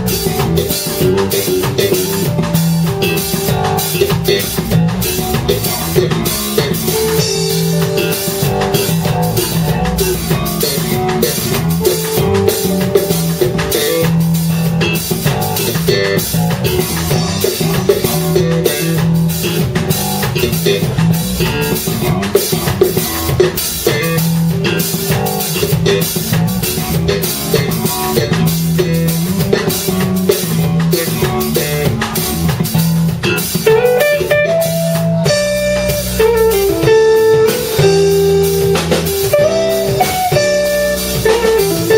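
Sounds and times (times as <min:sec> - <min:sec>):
bass guitar: 0:00.0 - 0:41.9
drum kit beat: 0:00.0 - 0:41.9.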